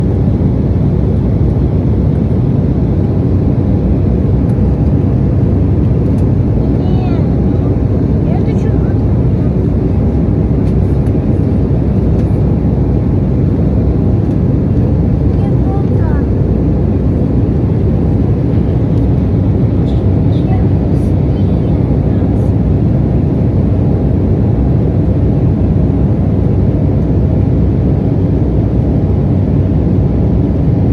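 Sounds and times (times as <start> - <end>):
aircraft cabin rumble: 0.0 - 30.9.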